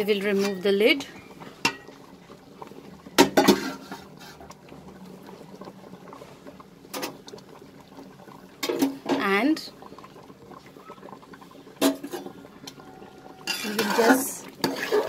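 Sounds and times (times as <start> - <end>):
rice and water boiling in pot: 0.0 - 15.0.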